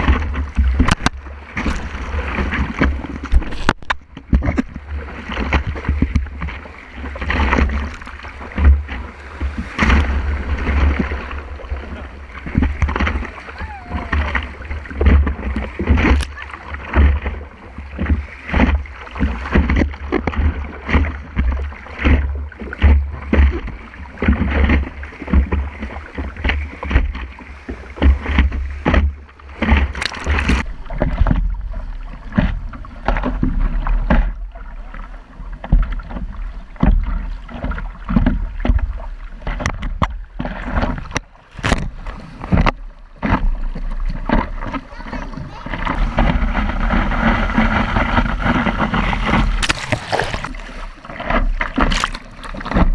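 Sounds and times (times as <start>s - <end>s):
water rushing and splashing: 0.0s - 52.9s.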